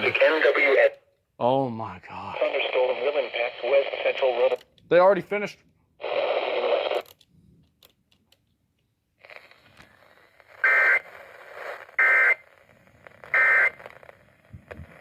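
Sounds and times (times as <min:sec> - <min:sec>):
faint radio hiss: 0:00.0 - 0:07.2, 0:09.2 - 0:15.0.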